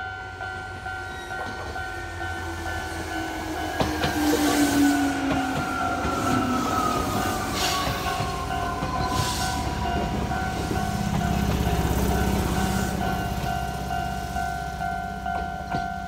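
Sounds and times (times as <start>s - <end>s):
train whine falling in pitch: 0.0s - 13.7s
train wheels rumbling on rails: 0.0s - 16.0s
two-tone level-crossing bell: 0.0s - 16.0s.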